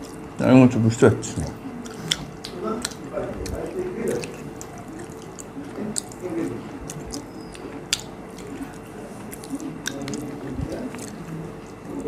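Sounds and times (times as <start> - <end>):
chewing smacks: 0.0 - 0.4, 1.4 - 12.0
faint steady hum: 0.0 - 12.0.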